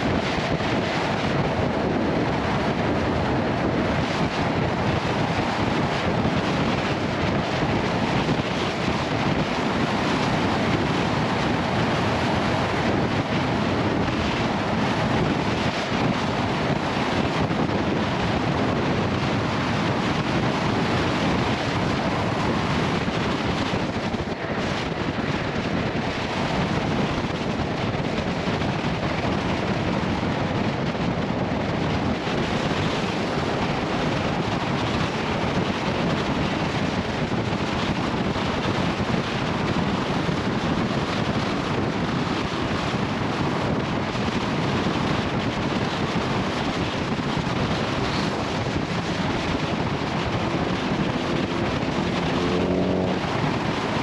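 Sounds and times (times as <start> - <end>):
motorcycle road and engine noise: 0.0 - 54.0
wind rushing over microphone: 0.0 - 54.0.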